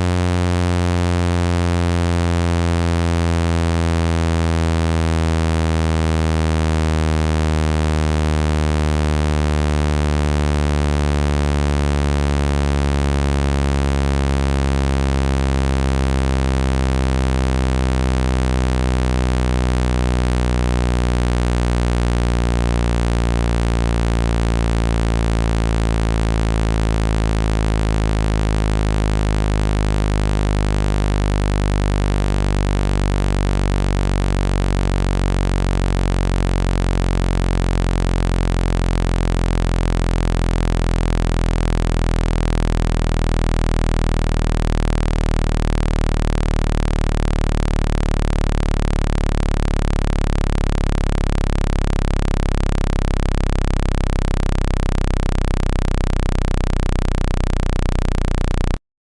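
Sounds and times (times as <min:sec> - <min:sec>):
low buzzing tone: 0:00.0 - 0:58.8.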